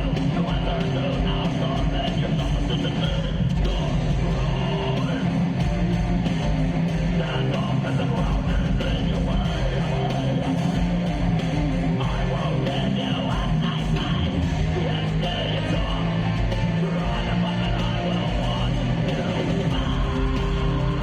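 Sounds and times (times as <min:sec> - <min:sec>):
heavy metal band playing live: 0:00.0 - 0:21.0.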